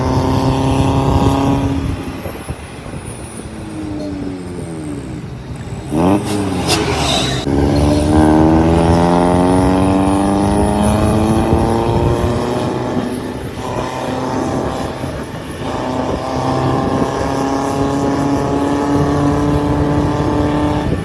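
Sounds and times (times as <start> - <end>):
diesel engine revving: 0.0 - 3.0, 3.8 - 21.0
rush of noise: 1.1 - 18.0.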